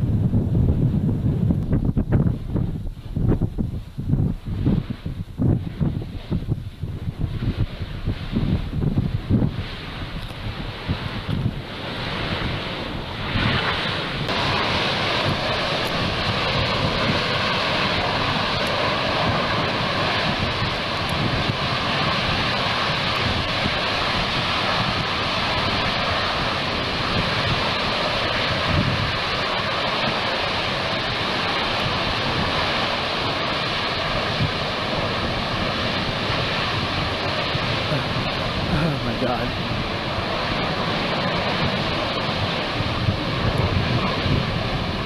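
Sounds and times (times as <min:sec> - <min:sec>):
wind rumbling on microphone: 0:00.0 - 0:45.0
gas and steam jetting hiss: 0:07.4 - 0:45.0.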